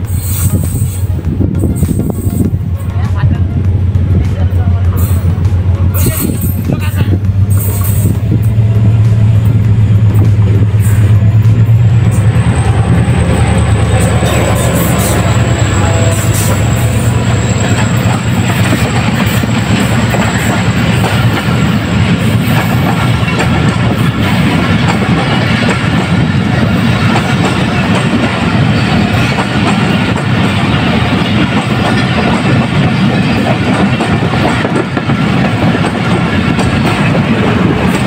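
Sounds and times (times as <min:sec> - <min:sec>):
diesel locomotive engine rumble: 0:00.0 - 0:38.0
train coaches clicking over rail joints: 0:03.6 - 0:38.0.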